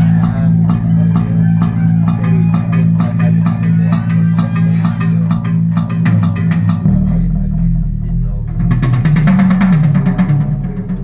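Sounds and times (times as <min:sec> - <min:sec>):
bass-heavy music over loudspeakers: 0:00.0 - 0:11.0.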